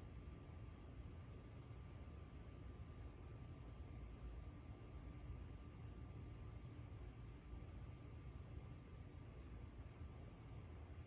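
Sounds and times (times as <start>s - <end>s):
low rumble of night ambience: 0.0s - 11.0s.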